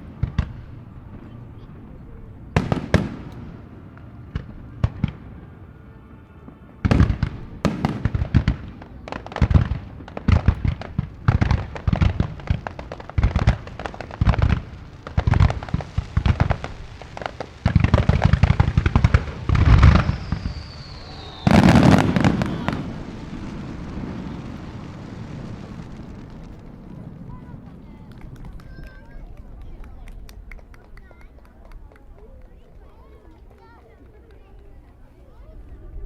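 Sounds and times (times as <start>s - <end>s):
fireworks bangs and crackle: 0.0s - 36.0s.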